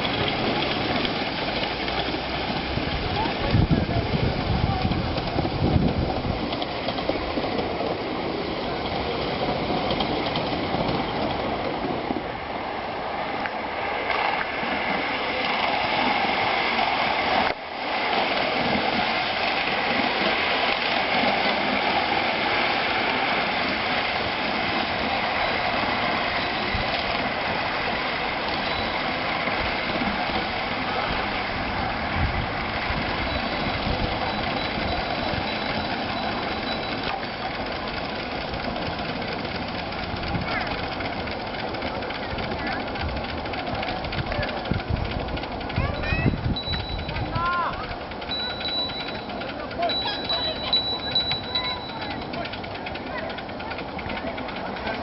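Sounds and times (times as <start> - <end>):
miniature steam train running: 0.0 - 55.0.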